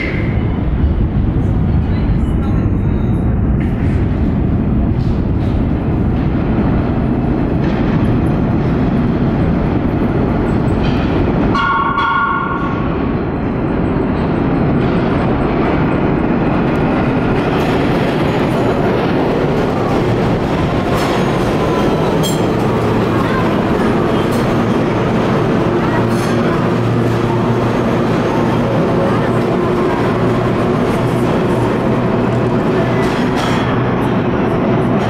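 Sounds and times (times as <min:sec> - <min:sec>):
subway train rumbling: 0:00.0 - 0:35.0.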